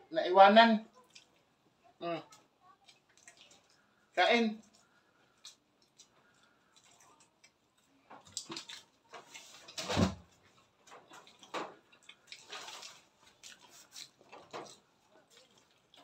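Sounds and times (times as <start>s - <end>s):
people chewing and lip smacking: 0.9s - 16.0s.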